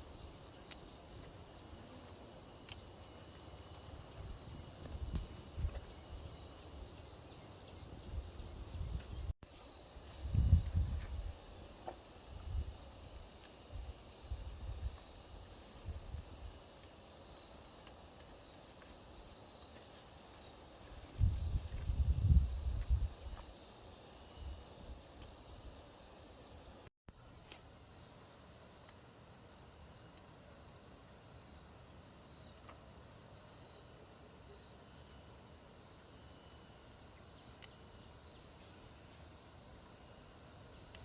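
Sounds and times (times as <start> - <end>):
insect chorus: 0.0 - 41.0.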